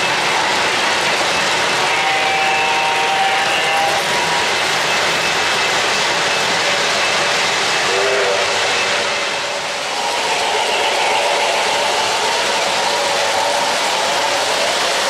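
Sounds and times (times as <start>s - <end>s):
model train wheels rushing on rails: 0.0s - 15.0s.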